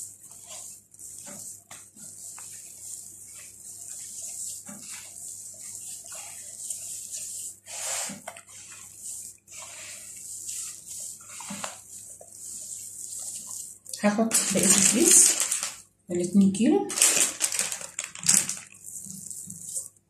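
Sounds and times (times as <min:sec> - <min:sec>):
hands mixing dough in plastic bowl: 0:00.0 - 0:20.0.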